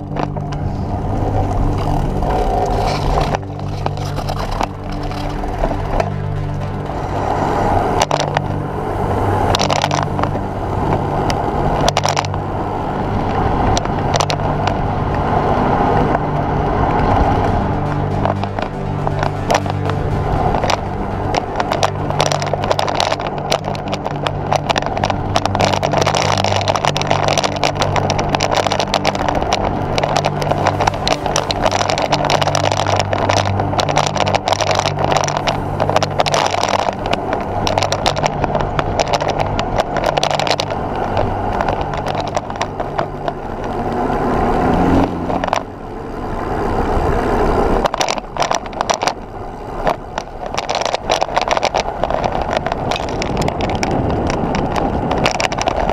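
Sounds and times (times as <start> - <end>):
knocks and rattles from road: 0.0 - 55.9
road noise: 0.0 - 55.9
wind rush: 0.0 - 55.9.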